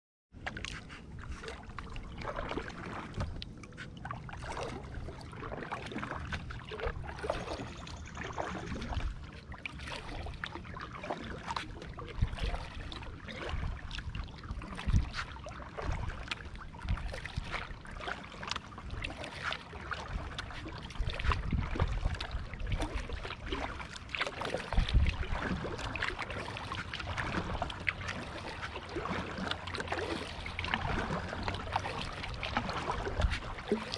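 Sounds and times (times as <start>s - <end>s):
paddle splashing in water: 0.4s - 33.9s.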